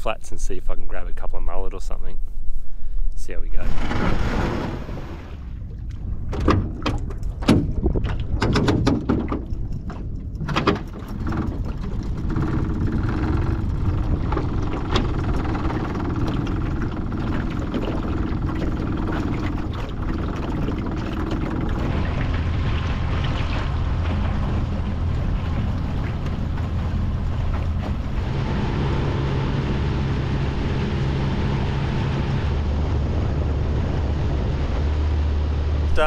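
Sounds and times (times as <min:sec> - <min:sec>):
outboard motor running: 0:03.6 - 0:36.0.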